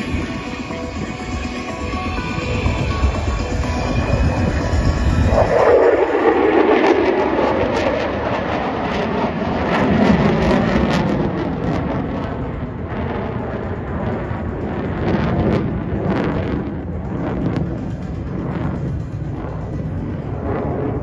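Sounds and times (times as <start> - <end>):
jet flying overhead: 0.0 - 21.0.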